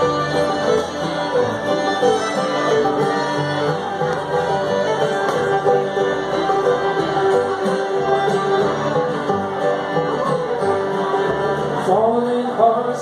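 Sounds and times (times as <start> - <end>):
acoustic guitar: 0.0 - 13.0
banjo: 0.0 - 13.0
fiddle: 0.0 - 13.0
upright bass: 0.0 - 13.0.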